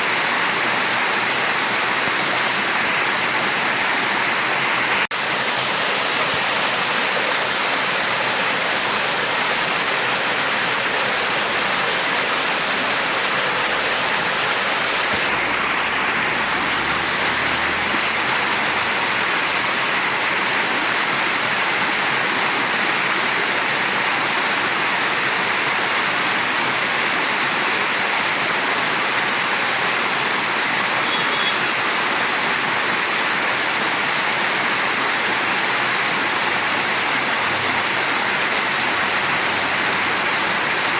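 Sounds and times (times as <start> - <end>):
mountain stream rushing: 0.0 - 40.9.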